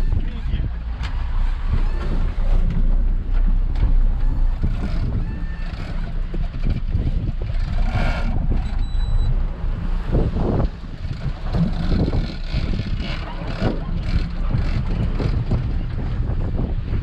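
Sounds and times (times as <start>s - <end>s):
boat engine rumbling: 0.0s - 17.0s
wind buffeting microphone: 0.0s - 17.0s.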